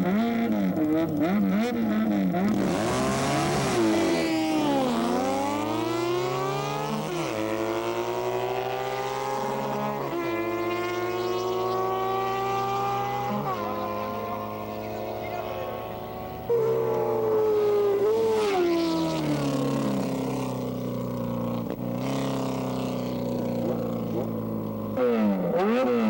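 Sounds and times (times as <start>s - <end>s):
motorcycle engine revving and accelerating: 0.0s - 26.0s.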